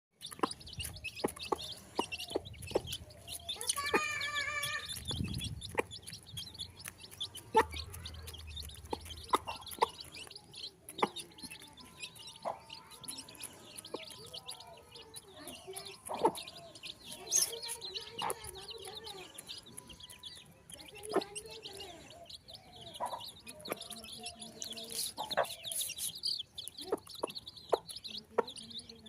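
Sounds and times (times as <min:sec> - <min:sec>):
chicks peeping: 0:00.2 - 0:29.0.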